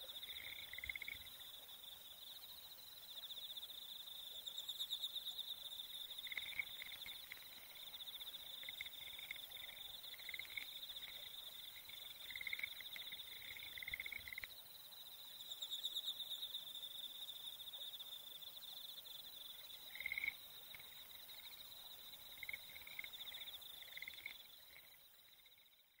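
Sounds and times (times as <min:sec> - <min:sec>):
insects trilling: 0:00.0 - 0:25.8.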